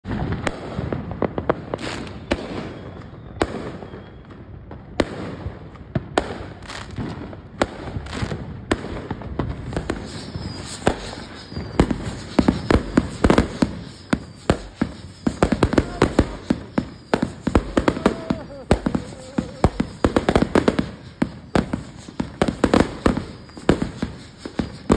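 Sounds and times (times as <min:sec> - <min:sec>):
fireworks bangs and pops: 0:00.0 - 0:24.9
fireworks crackling: 0:00.0 - 0:24.9.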